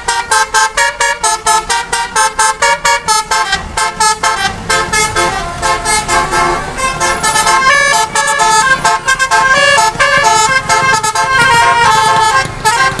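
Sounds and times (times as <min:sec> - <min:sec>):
multi-tone bus horn tune: 0:00.0 - 0:13.0.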